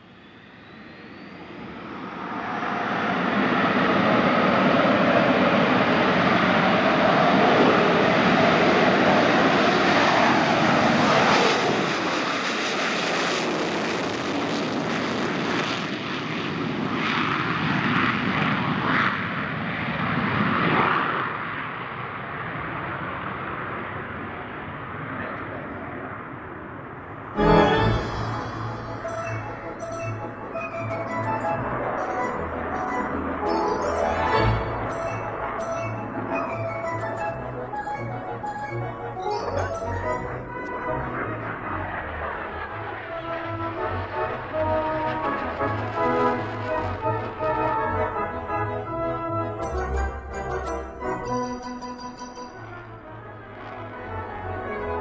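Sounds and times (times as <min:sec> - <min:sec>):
jet engines roaring on takeoff: 0:00.0 - 0:51.3, 0:52.3 - 0:55.0.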